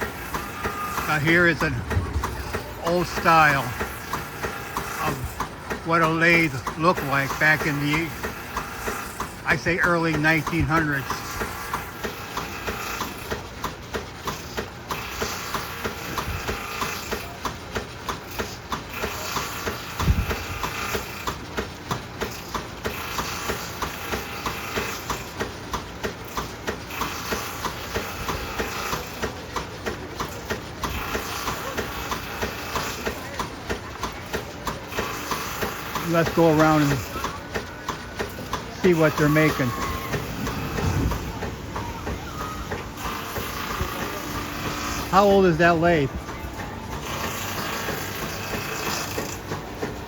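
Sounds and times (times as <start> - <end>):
wood lathe mechanical din: 0.0 - 50.0.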